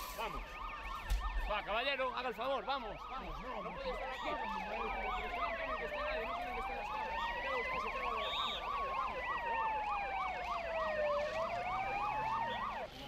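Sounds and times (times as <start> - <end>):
wailing siren: 0.0 - 13.0
warbling sirens: 0.0 - 13.0.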